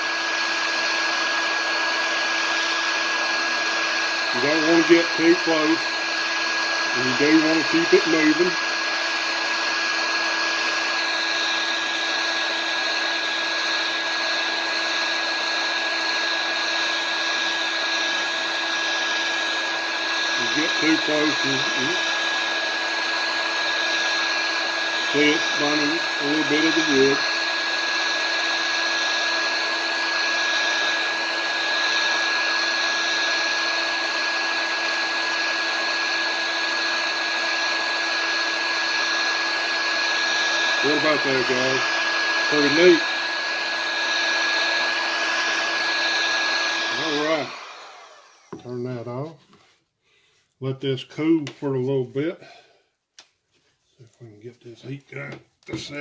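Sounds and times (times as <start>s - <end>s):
heat gun blowing air: 0.0s - 49.3s.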